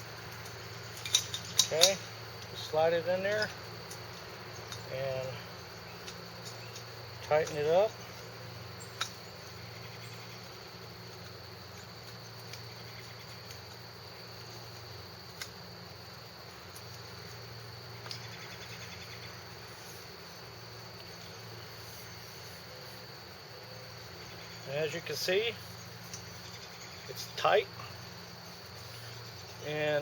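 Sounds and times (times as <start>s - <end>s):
crickets chirping: 0.0s - 30.0s
low background hum: 0.0s - 30.0s.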